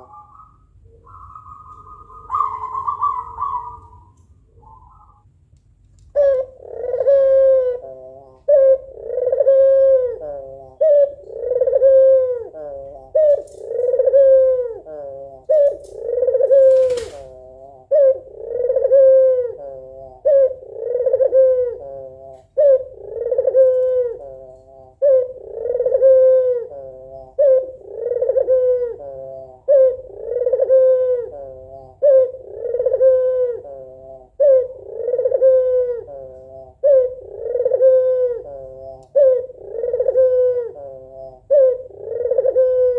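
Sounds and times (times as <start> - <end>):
dove cooing: 0.0 - 5.3, 6.1 - 42.9.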